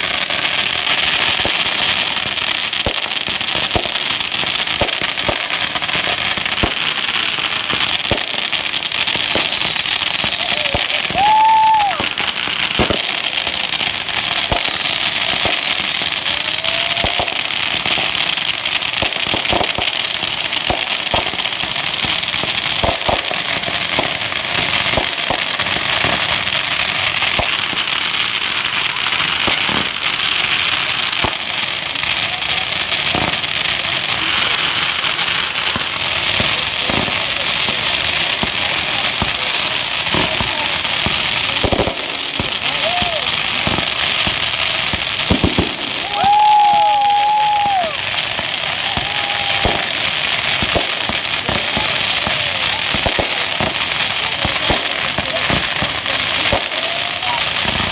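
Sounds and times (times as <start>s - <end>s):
firework pops and bangs: 0.0s - 57.9s
fireworks crackling: 0.0s - 57.9s.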